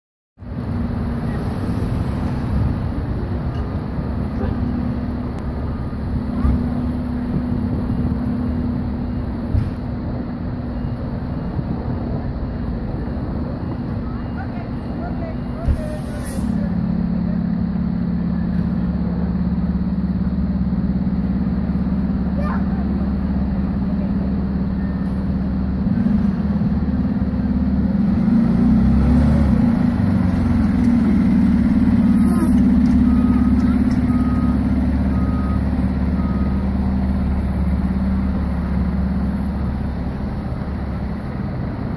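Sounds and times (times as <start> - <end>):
diesel engine low rumble: 0.4 - 41.9.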